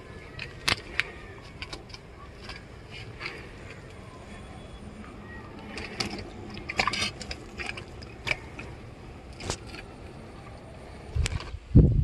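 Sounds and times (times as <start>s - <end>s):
handling clicks and rustles: 0.0s - 11.6s.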